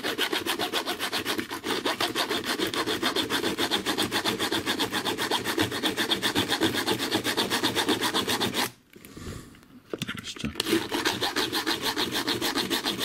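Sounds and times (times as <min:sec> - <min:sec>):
hand saw cutting steel: 0:00.0 - 0:08.8, 0:10.6 - 0:13.0.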